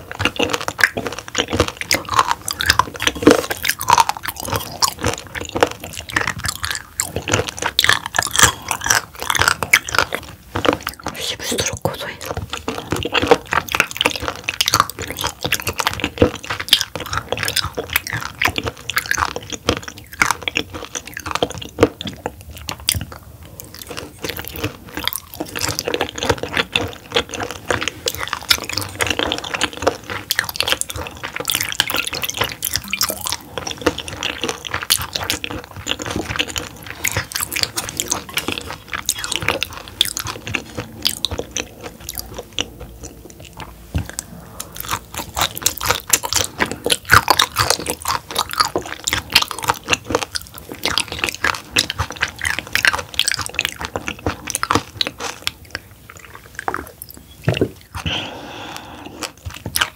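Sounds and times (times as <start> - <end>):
chewing with wet clicks: 0.0 - 59.9.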